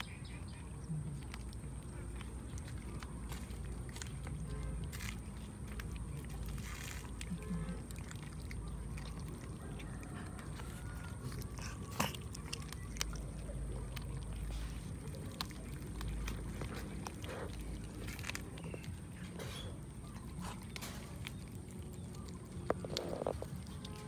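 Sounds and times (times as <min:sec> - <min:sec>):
cats chewing wetly: 0:00.0 - 0:24.0.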